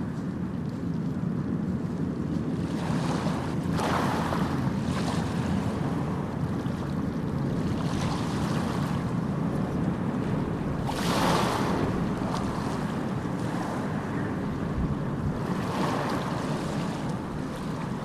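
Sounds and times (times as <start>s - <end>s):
sea waves washing onto shore: 2.2s - 18.0s.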